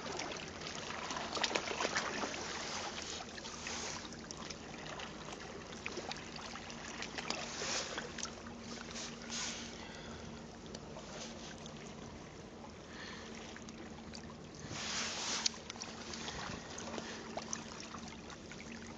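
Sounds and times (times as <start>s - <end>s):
small water splashes: 0.0s - 18.9s
water sloshing and lapping: 0.0s - 18.9s.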